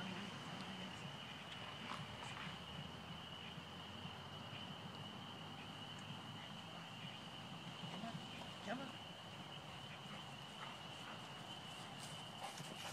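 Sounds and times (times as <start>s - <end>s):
faint chirps: 0.0s - 12.9s
high-pitched insect drone: 0.0s - 12.9s.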